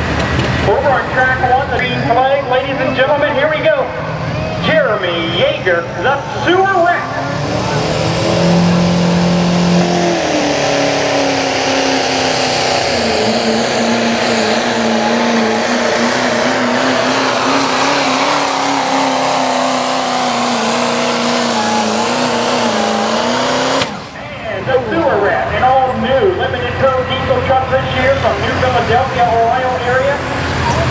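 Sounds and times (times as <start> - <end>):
diesel truck engine at full throttle: 0.0 - 30.9.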